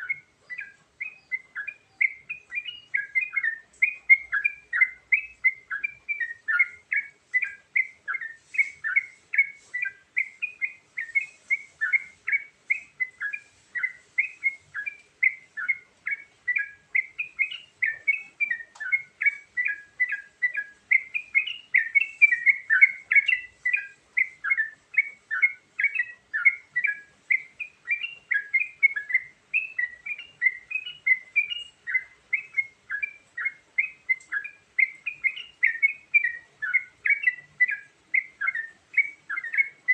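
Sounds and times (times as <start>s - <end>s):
bird singing warbled notes: 0.0s - 39.9s.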